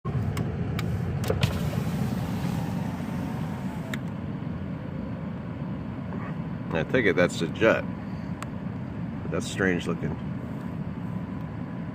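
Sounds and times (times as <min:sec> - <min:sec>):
vehicle engine rumble: 0:00.0 - 0:11.9.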